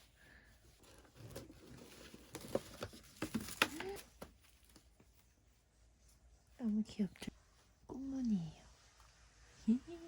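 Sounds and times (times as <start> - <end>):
rustling of clothes being handled: 0.0 - 10.0.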